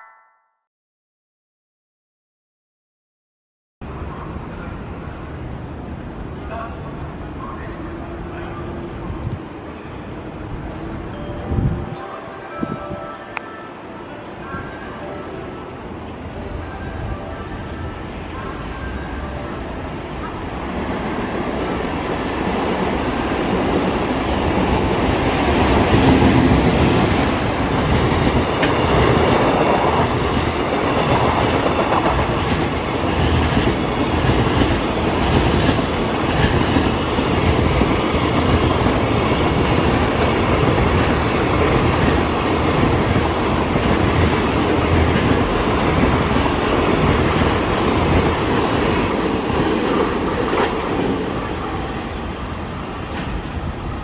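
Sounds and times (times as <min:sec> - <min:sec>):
freight train rumbling: 0:03.8 - 0:54.0.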